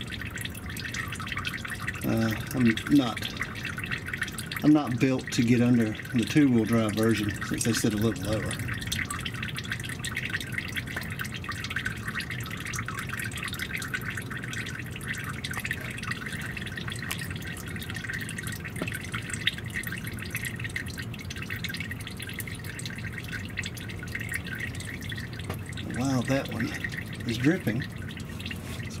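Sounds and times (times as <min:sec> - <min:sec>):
dripping oil: 0:00.0 - 0:29.0
oil trickling into drain pan: 0:00.0 - 0:29.0.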